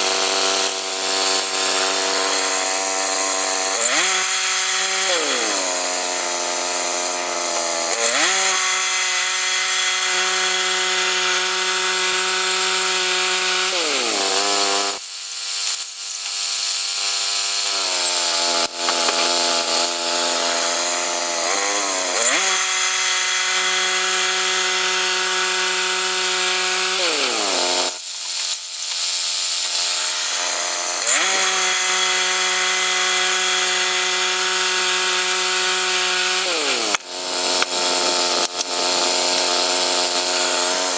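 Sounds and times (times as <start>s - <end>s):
chainsaw engine revving: 0.0s - 16.2s, 17.0s - 40.9s.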